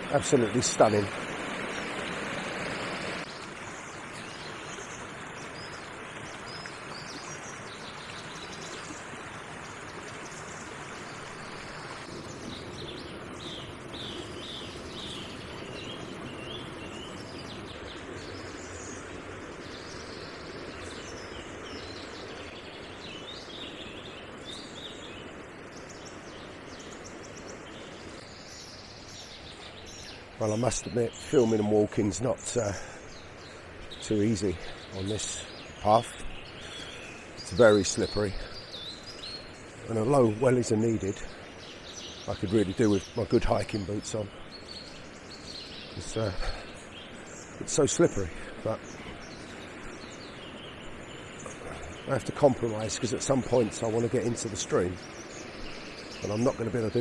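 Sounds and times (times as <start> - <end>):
brook rushing over rocks: 0.0 - 57.0
small birds chirping: 0.0 - 57.0.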